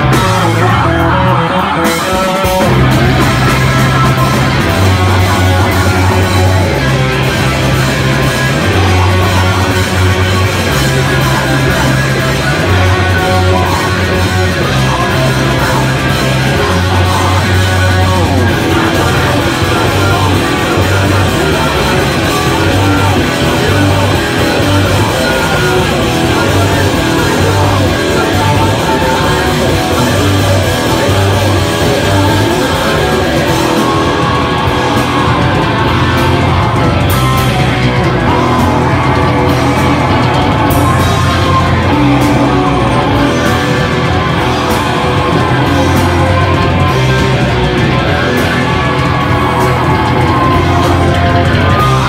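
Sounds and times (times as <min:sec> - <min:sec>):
bass: 0:00.0 - 0:52.0
distorted guitar: 0:00.0 - 0:52.0
drums: 0:00.0 - 0:52.0.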